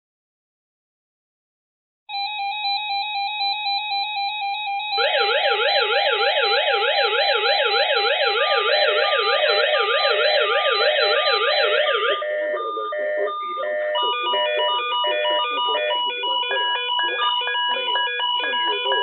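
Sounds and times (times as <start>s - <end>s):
beeping tone pattern: 2.2s - 19.0s
siren-like sweeping tone: 2.2s - 19.0s
steady pulsing alert tone: 2.2s - 19.0s.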